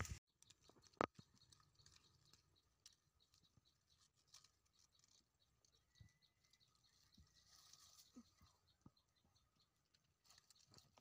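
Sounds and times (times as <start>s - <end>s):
leaves rustling: 0.0s - 8.6s, 9.8s - 11.0s.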